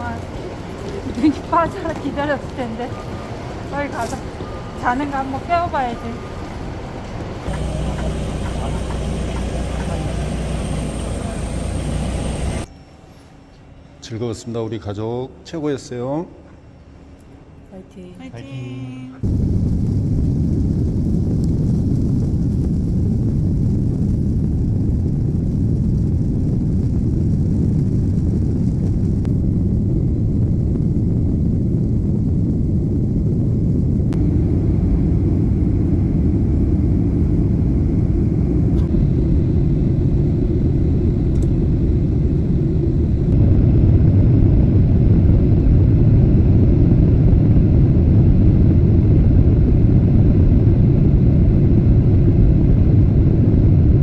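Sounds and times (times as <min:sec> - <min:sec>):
vehicle rumbling: 0:00.0 - 0:12.7, 0:19.2 - 0:53.9.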